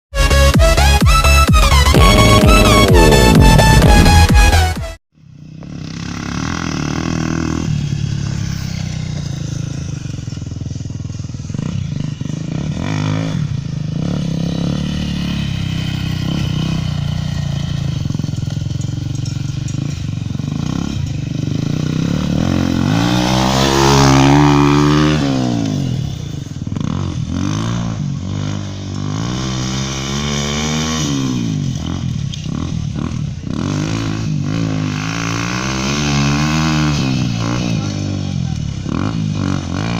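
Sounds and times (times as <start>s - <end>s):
dirt bike engine revving: 0.2s - 39.9s.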